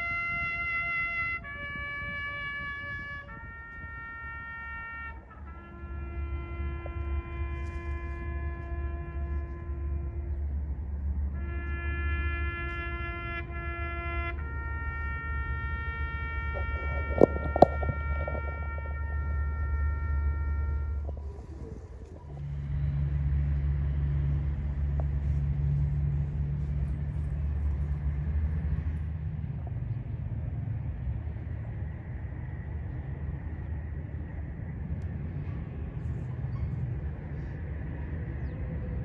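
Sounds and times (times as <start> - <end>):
low engine-like rumble: 0.0 - 39.0.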